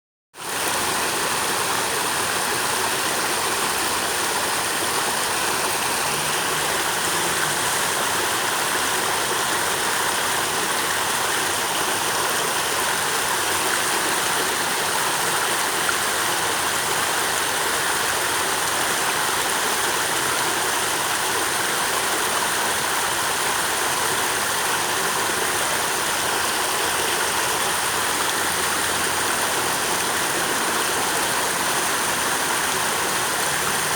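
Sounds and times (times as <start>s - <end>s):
water rushing: 0.4s - 33.9s.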